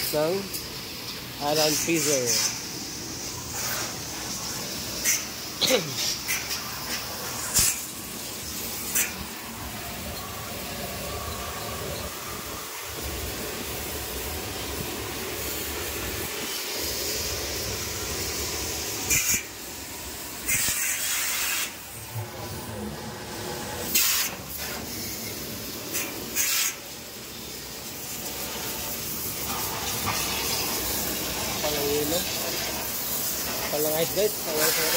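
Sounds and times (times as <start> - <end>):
pressure washer spraying water: 0.0 - 34.9.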